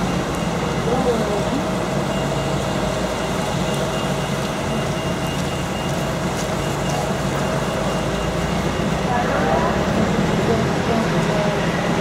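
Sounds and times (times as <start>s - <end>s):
bus engine running: 0.0s - 12.0s
tyres hissing on wet road: 0.0s - 12.0s.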